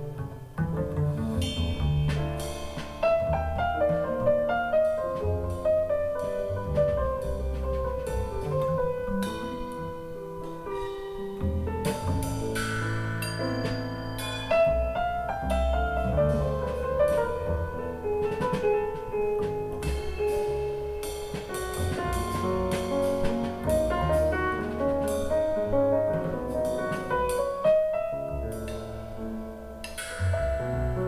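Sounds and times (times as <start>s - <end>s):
instrumental music with drums: 0.0s - 31.0s.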